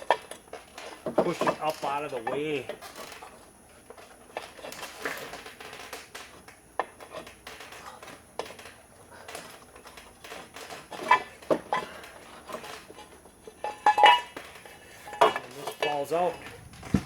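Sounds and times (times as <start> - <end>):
tools and metal parts clinking: 0.0 - 17.0.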